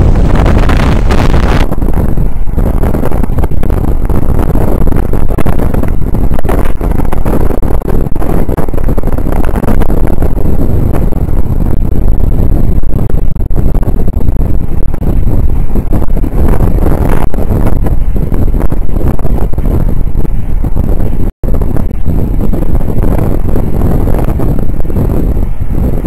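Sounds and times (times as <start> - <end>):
vehicle road and engine rumble: 0.0 - 26.0
wind buffeting microphone: 0.0 - 26.0.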